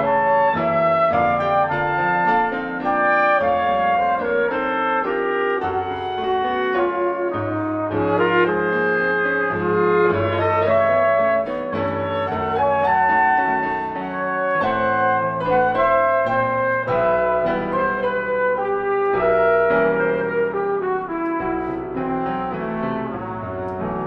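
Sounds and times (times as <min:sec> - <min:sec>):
instrumental silent film music: 0:00.0 - 0:24.0.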